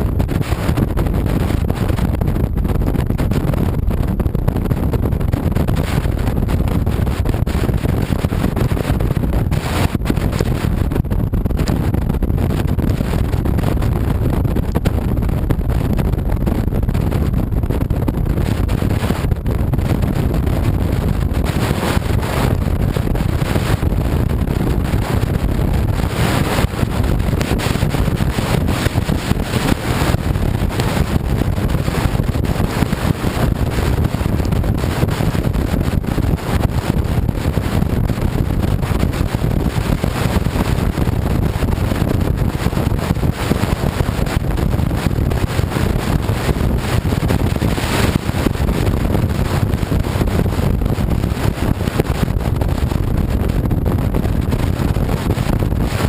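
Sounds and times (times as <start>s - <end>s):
wind rush on microphone: 0.0s - 56.0s.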